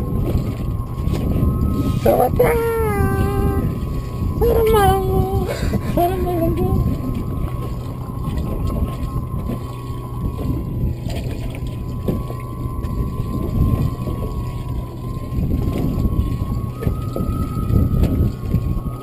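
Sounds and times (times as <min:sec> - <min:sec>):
thin high whine: 0:00.0 - 0:19.0
water sloshing against hull: 0:00.0 - 0:19.0
wind buffeting microphone: 0:00.0 - 0:19.0.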